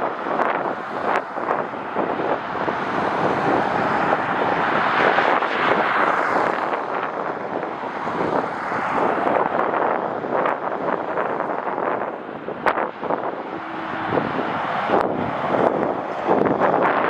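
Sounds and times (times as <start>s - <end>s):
jet engines roaring past: 0.0s - 17.0s
wind buffeting microphone: 0.0s - 17.0s.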